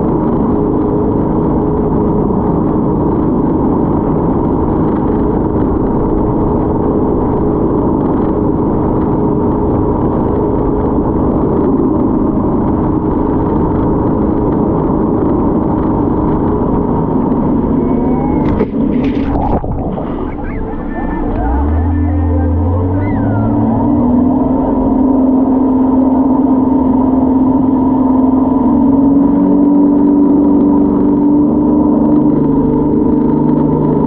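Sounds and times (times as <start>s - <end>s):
speedboat engines droning: 0.0s - 34.0s.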